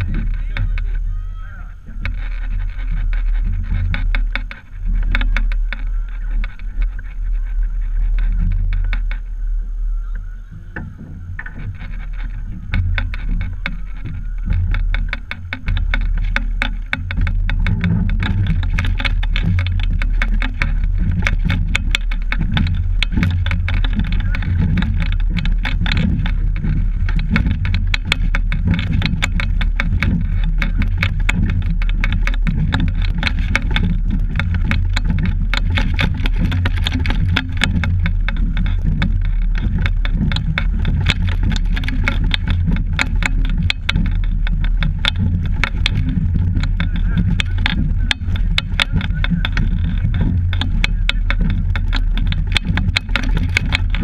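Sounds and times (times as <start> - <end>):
boat and camera mount rattling: 0.0 - 54.0
crackling clicks: 0.0 - 54.0
wind noise: 0.0 - 54.0.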